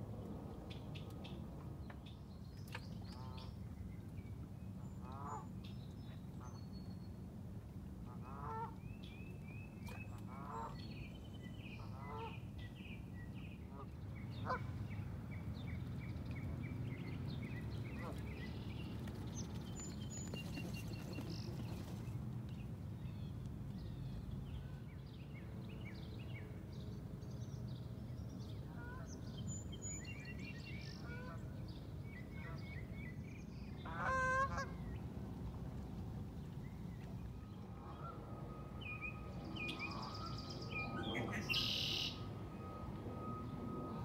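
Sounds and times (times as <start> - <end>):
songbirds chirping: 0.2 - 35.2, 36.2 - 44.0.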